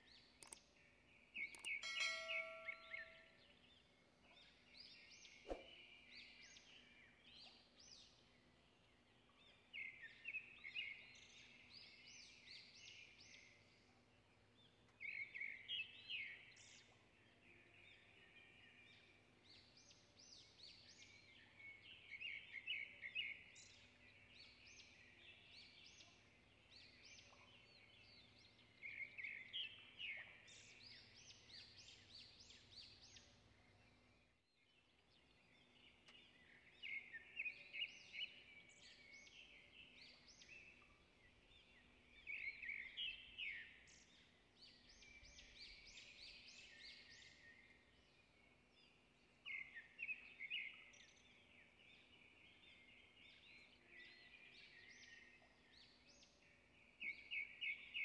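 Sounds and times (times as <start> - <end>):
faint birdsong chirps: 0.0 - 58.0.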